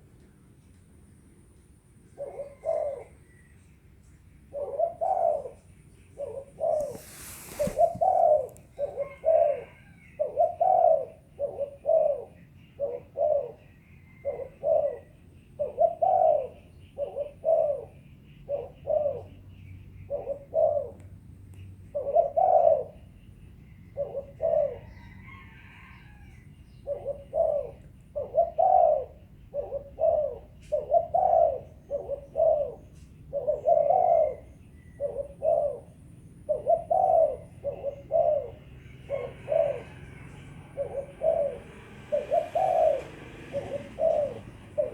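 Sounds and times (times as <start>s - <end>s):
dove cooing: 2.1s - 3.5s, 4.4s - 44.9s
small birds chirping: 2.2s - 44.9s.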